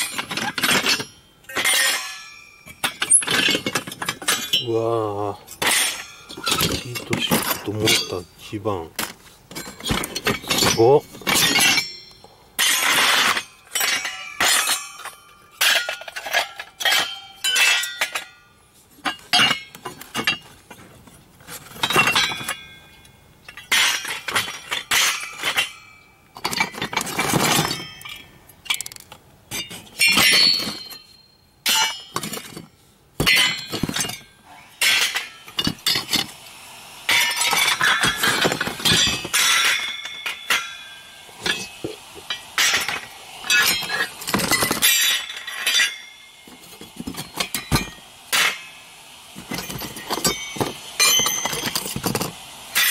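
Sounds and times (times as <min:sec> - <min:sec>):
metal heat sinks clanking: 0:00.0 - 0:52.9.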